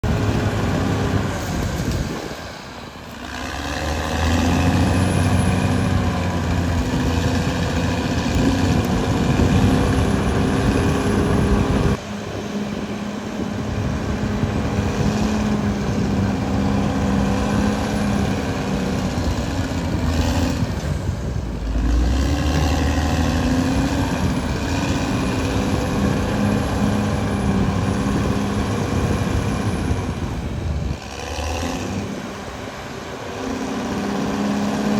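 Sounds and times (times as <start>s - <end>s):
bulldozer diesel engine under load: 0.0s - 34.9s.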